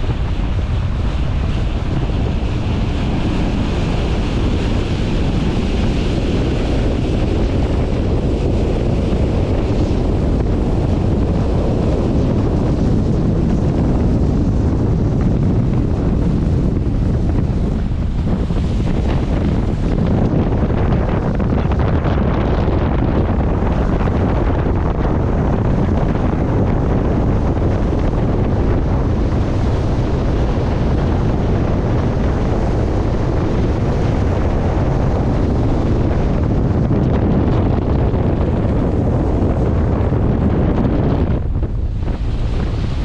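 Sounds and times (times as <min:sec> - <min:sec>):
boat engine drone: 0:00.0 - 0:43.0
bow wave and spray rushing: 0:00.0 - 0:43.0
wind buffeting microphone: 0:00.0 - 0:43.0.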